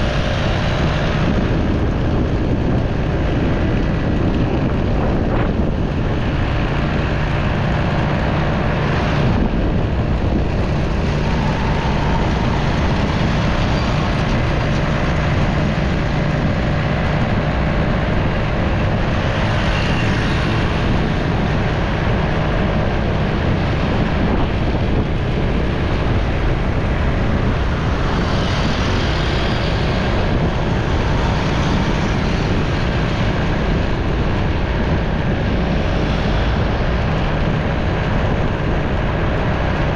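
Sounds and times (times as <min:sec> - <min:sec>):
motorcycle riding: 0:00.0 - 0:39.9
surrounding traffic: 0:00.0 - 0:39.9
wind noise on microphone: 0:00.0 - 0:39.9.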